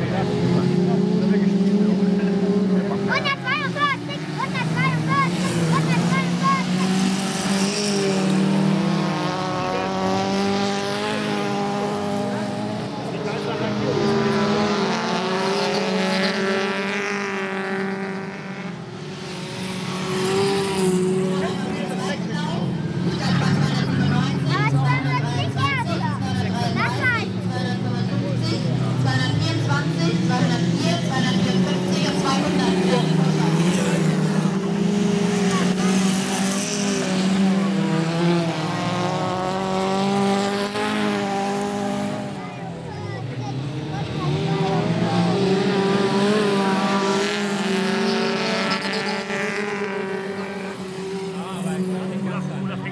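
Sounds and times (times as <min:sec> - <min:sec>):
race car engines running hard: 0:00.0 - 0:52.9.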